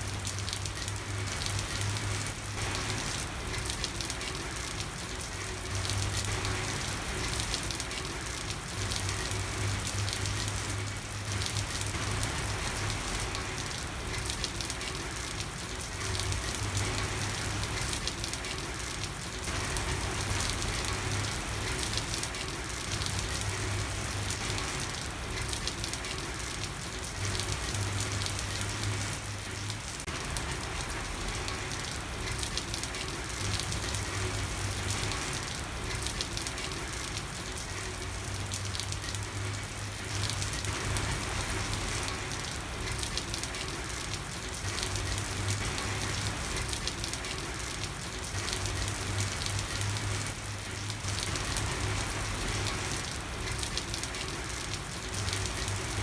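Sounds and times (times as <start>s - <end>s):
rain falling on a street: 0.0s - 56.0s.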